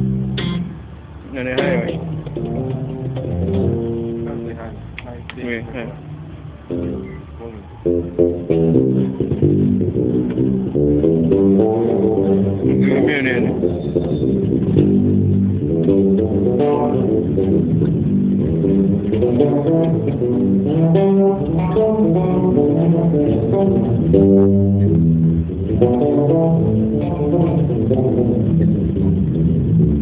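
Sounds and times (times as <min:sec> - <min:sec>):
bass guitar: 0:00.0 - 0:30.0
electric guitar: 0:00.0 - 0:30.0.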